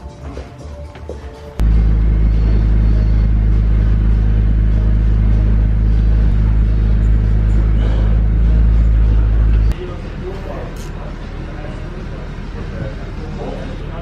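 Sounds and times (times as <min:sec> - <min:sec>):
low mechanical hum: 0:01.6 - 0:14.0.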